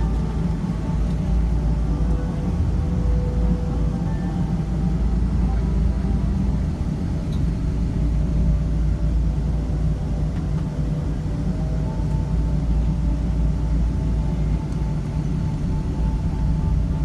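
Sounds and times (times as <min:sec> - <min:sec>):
faint steady whine: 0:00.0 - 0:17.0
low rumble inside aircraft cabin: 0:00.0 - 0:17.0.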